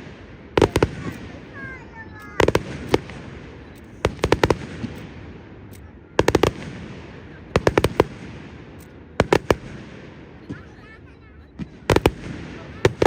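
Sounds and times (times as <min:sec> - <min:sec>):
fireworks bangs: 0:00.0 - 0:13.0
steady background hiss: 0:00.0 - 0:13.0.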